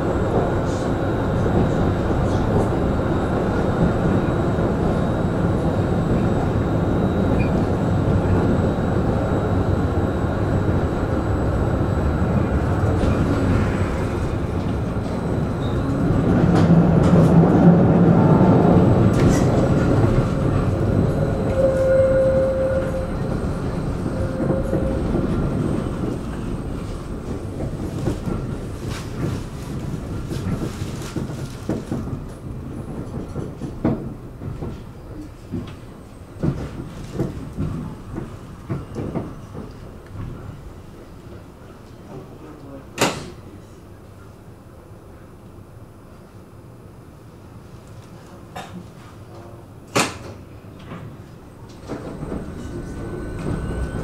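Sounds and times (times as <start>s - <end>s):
tram rumbling along track: 0.0s - 54.0s.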